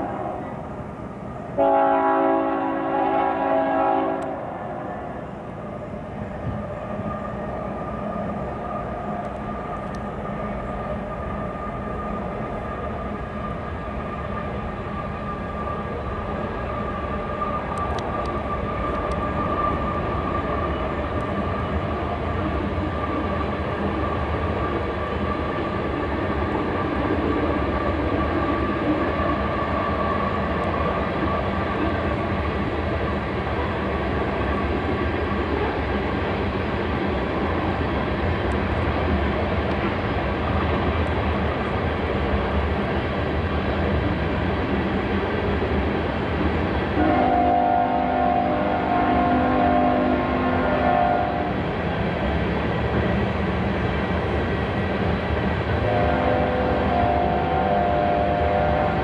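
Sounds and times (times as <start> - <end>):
train rumble and rail noise: 0.0 - 59.0.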